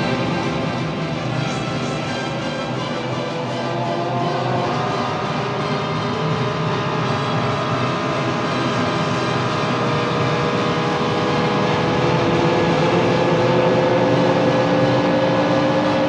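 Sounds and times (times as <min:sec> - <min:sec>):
racing car engines droning: 0:00.0 - 0:16.0.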